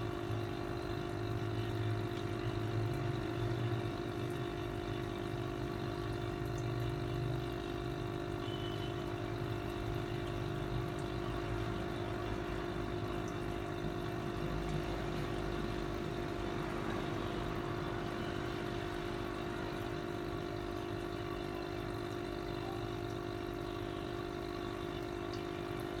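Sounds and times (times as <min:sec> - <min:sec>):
air pump humming: 0:00.0 - 0:26.0.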